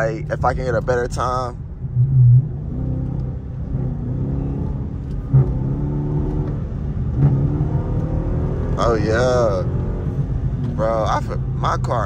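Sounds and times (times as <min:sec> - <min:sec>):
car engine accelerating hard: 0:00.5 - 0:12.0.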